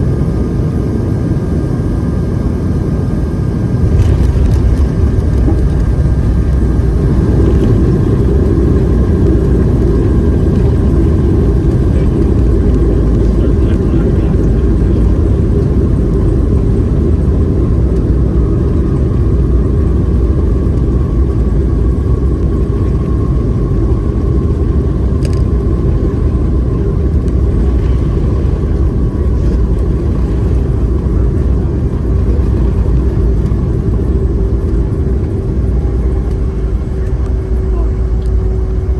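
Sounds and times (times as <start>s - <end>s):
engine and airflow rumble: 0.0s - 38.9s
faint engine whine: 0.0s - 38.9s.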